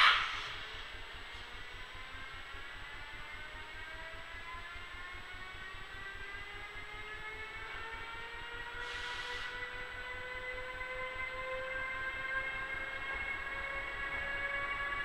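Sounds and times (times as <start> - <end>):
electric locomotive whine rising: 0.0 - 15.0.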